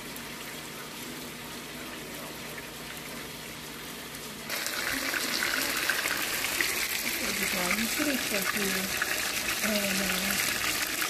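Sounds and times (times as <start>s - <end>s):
patties sizzling in skillet: 1.2s - 11.0s.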